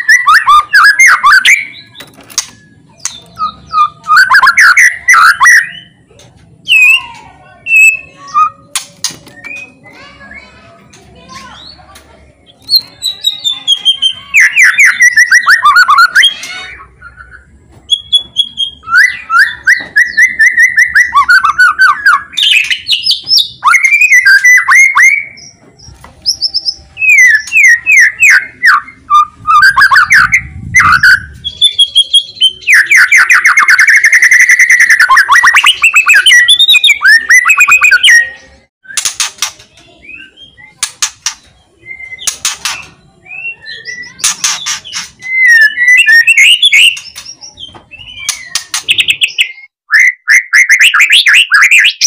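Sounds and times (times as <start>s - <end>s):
bird singing whistles and trills: 0.0s - 6.0s, 6.7s - 10.5s, 12.5s - 52.0s.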